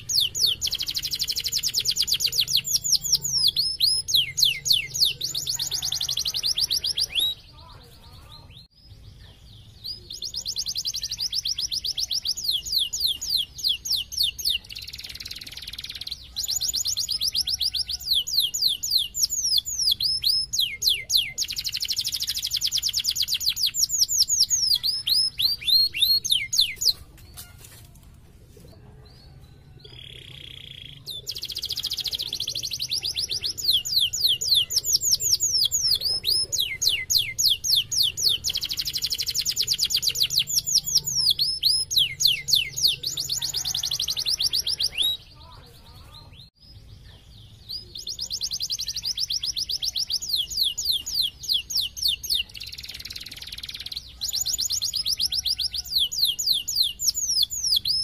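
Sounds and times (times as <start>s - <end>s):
canary singing trills: 0.0s - 27.7s, 29.0s - 58.0s.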